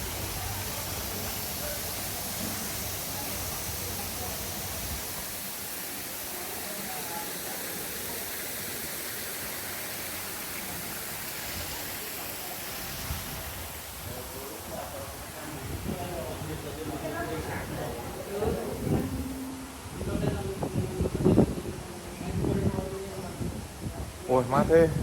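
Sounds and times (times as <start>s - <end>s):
faint distant voices: 0.0s - 25.0s
rushing open-air hiss: 0.0s - 25.0s.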